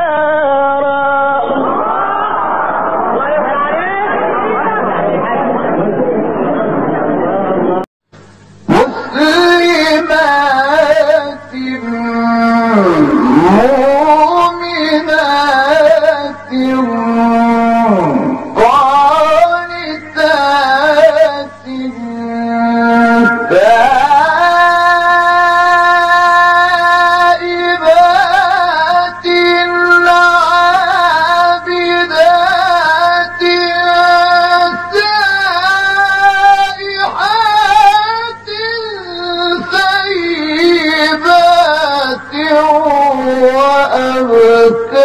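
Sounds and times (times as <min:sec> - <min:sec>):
man reciting in melismatic chant: 0:00.0 - 0:01.8, 0:08.6 - 0:45.0.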